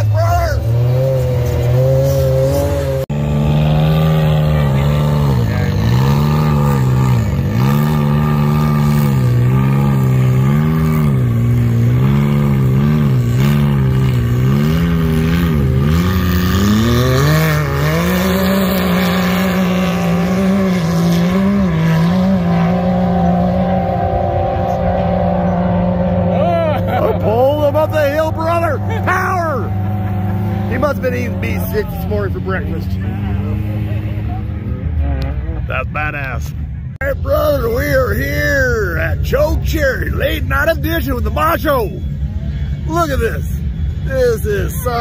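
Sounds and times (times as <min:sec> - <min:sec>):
engine revving at low speed: 0:00.0 - 0:45.0.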